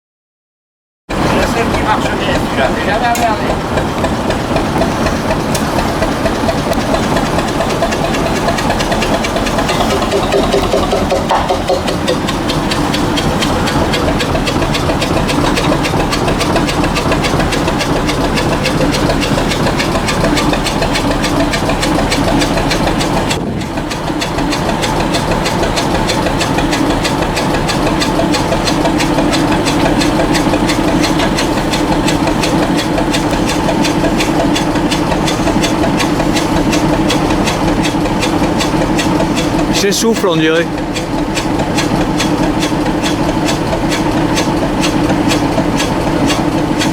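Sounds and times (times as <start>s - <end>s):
rail vehicle engine running: 1.1s - 46.9s.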